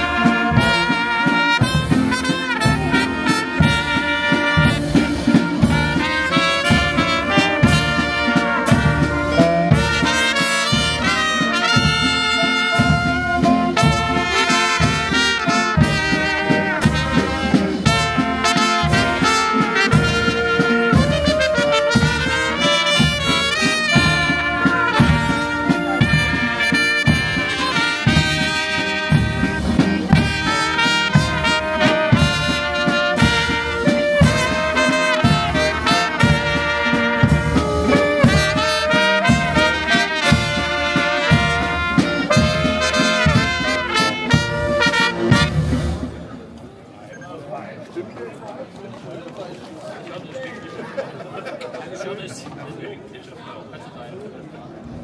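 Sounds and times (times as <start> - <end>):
steady beat: 0.0 - 45.6
trombones: 0.0 - 46.4
trumpets: 0.0 - 46.4.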